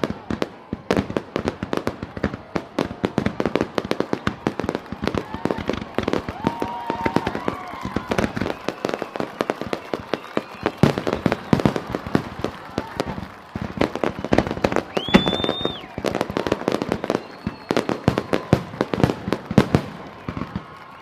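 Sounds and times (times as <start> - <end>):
firecrackers banging and popping: 0.0 - 21.0.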